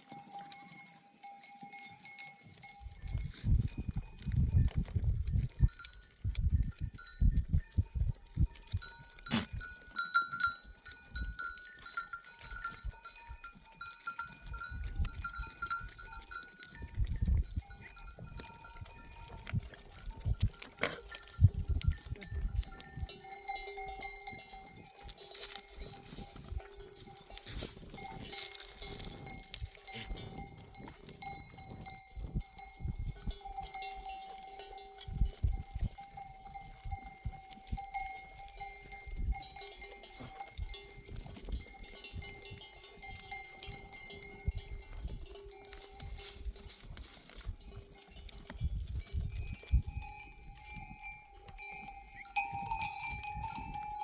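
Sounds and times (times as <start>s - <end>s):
sheep bells clanking: 0.0s - 54.0s.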